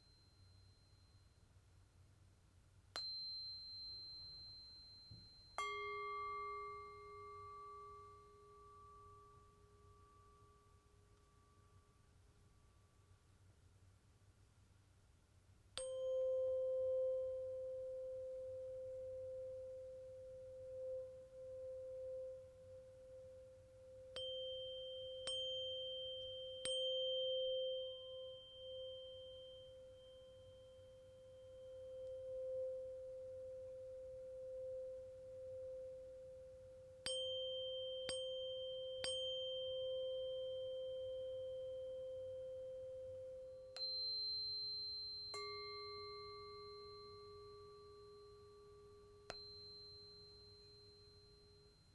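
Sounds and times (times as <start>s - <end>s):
lower-pitched tuning fork: 0.0s - 1.5s, 3.0s - 12.0s, 15.8s - 51.9s
tuning fork ringing: 0.0s - 1.6s, 3.0s - 12.0s, 15.8s - 51.9s.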